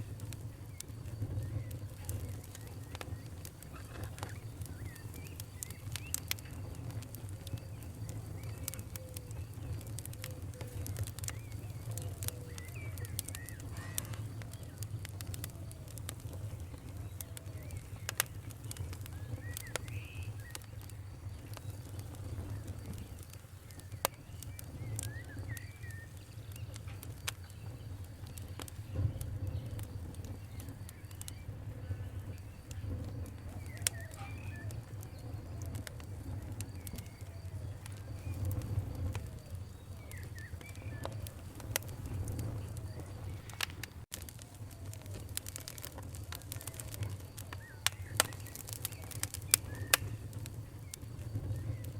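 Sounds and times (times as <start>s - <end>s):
birds chirping: 0.0s - 44.0s, 44.7s - 51.9s
campfire crackling and popping: 0.0s - 51.9s
steady low rumble: 0.0s - 51.9s.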